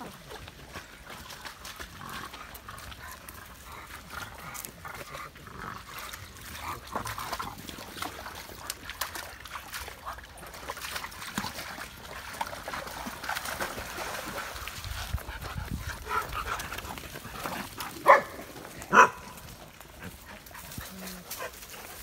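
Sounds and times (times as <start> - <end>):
dogs splashing through stream: 0.0 - 22.0.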